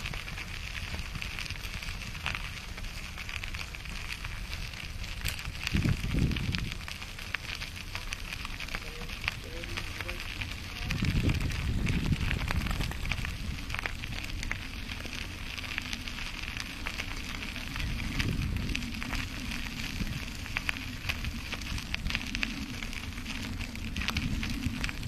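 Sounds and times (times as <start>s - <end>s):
bicycle tyres crackling on grit: 0.0s - 25.0s
wind rumbling on microphone: 0.0s - 25.0s.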